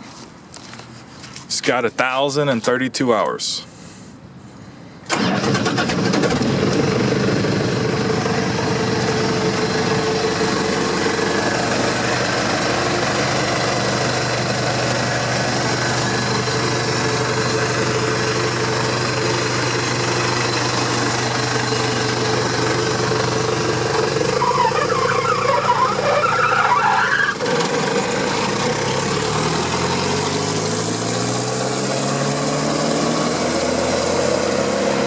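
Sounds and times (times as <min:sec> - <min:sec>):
wood chipper diesel engine running: 0:05.1 - 0:34.9.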